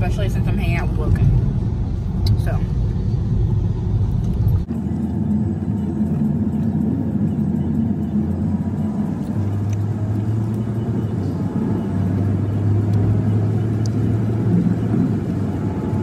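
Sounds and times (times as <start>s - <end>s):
car engine hum: 0.0s - 16.0s
road and cabin rumble: 0.0s - 16.0s.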